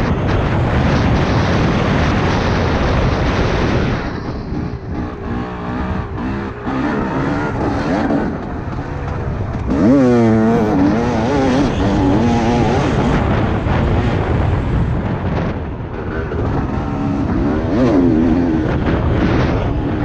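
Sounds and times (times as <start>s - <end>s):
wind on microphone: 0.0s - 20.0s
dirt bike engine revving: 0.4s - 20.0s.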